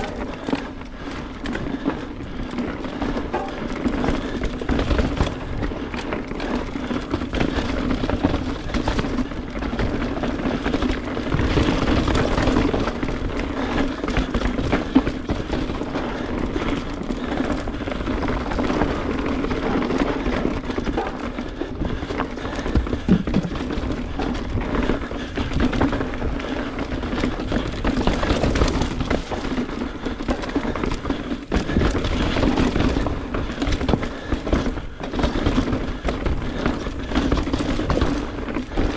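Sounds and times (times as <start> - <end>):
bike rattling over rocks: 0.0 - 38.9.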